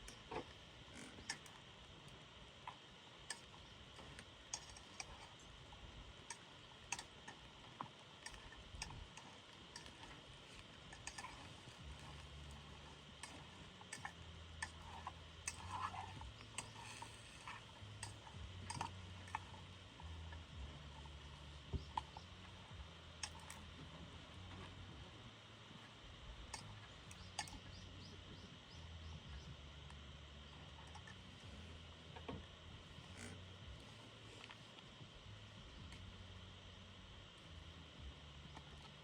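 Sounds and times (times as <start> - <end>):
faint steady hiss: 0.0 - 39.0.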